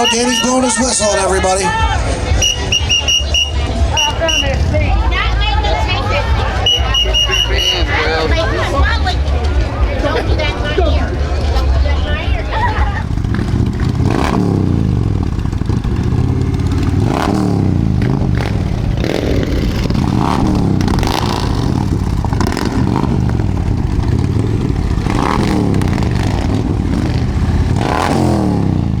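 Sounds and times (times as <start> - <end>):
motorcycle engine revving: 0.0 - 29.0
exhaust cracks: 1.7 - 29.0.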